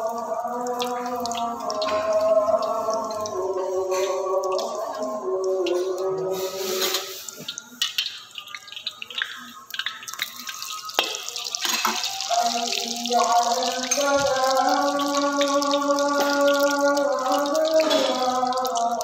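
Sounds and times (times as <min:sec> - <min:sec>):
call to prayer singing: 0:00.0 - 0:19.0
oil sizzling and crackling: 0:00.0 - 0:19.0.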